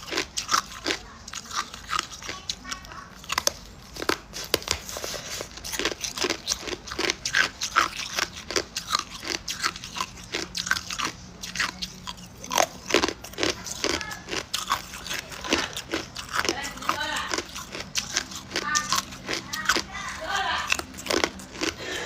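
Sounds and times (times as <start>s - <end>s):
ice cubes crunching: 0.0s - 22.0s.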